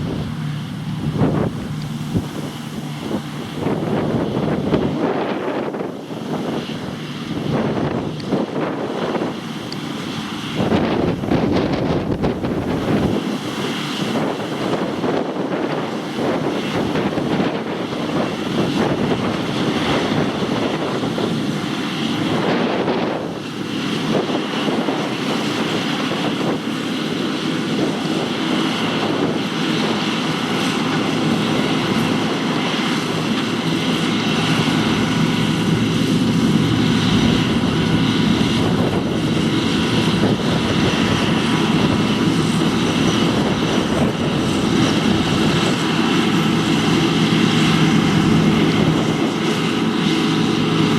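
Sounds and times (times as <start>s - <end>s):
combine harvester engine drone: 0.0s - 50.9s.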